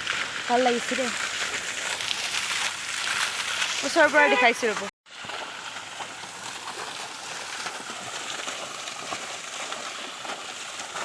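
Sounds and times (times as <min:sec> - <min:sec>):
hiss of running water: 0:00.0 - 0:11.0.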